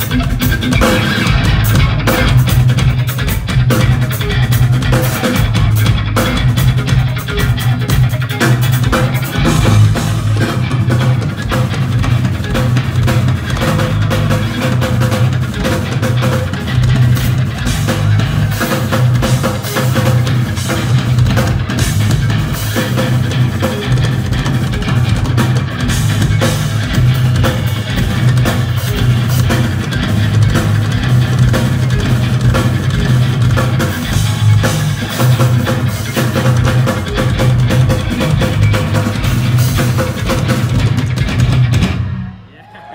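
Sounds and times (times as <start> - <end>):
electric guitars playing low riff: 0.0 - 42.5
drum kit: 0.0 - 42.9.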